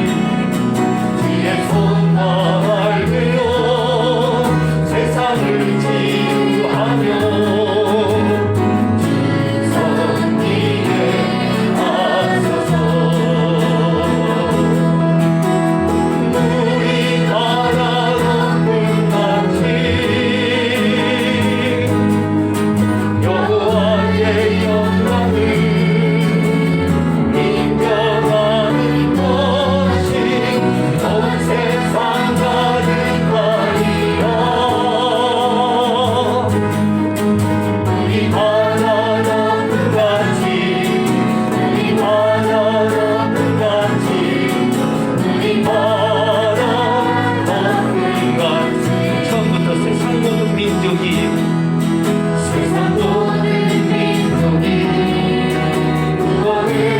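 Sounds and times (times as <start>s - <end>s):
instrumental backing: 0.0s - 56.9s
voices singing praise song: 0.0s - 56.9s.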